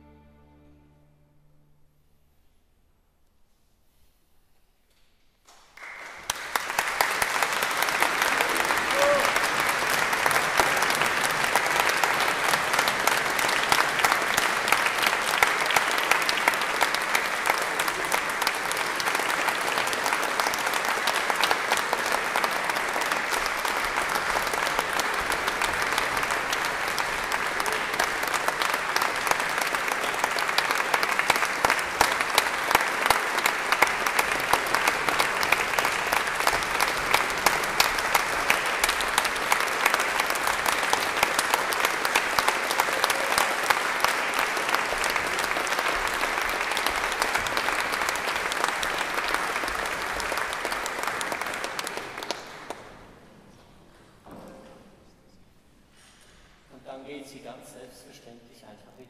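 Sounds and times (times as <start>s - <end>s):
audience applauding: 5.5s - 53.3s.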